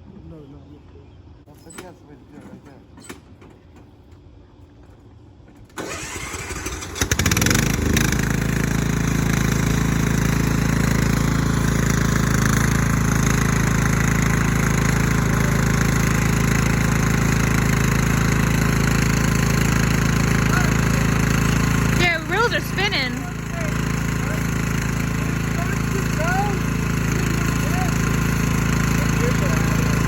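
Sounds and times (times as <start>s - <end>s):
engine running: 4.0s - 30.0s.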